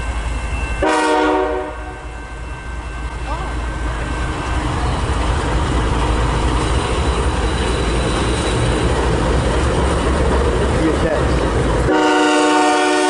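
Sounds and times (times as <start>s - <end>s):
train wheels rumbling and rattling: 0.0s - 13.0s.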